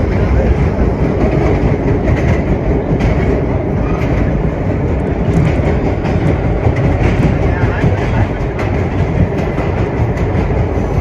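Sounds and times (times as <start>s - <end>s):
clickety-clack over rail joints: 0.0s - 11.0s
steel wheels rumbling on rails: 0.0s - 11.0s.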